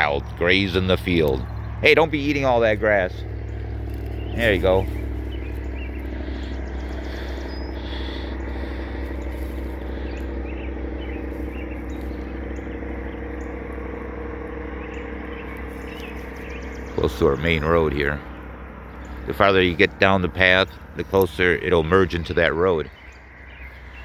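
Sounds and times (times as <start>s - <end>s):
faint bird chirps: 0.0s - 24.0s
low engine rumble: 0.0s - 24.0s.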